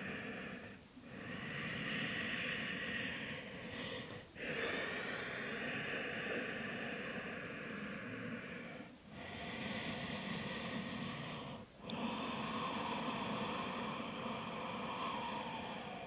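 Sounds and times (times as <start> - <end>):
woman breathing deeply: 0.0 - 16.0.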